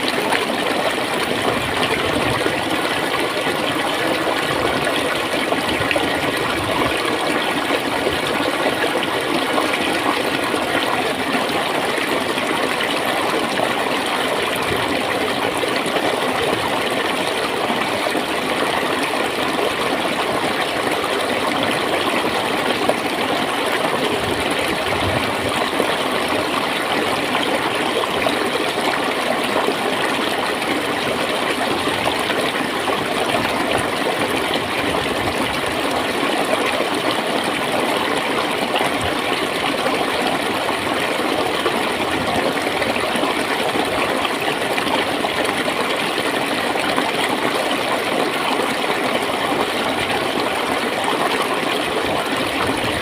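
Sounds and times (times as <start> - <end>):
stream gurgling over stones: 0.0 - 53.0.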